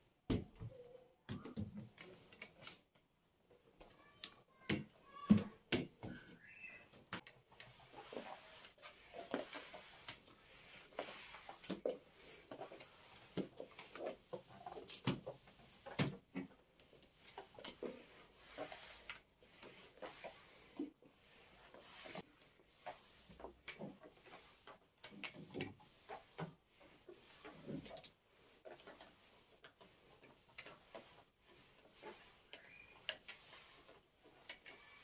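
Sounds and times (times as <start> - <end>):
household objects being handled: 0.0 - 35.0.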